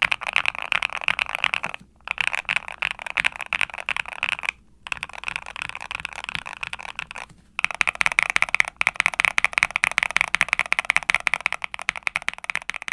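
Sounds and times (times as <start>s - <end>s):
fast mechanical keyboard typing: 0.0s - 12.9s.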